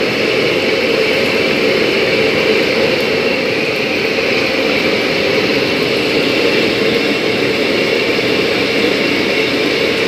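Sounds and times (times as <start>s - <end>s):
gas burner roaring: 0.0s - 10.0s.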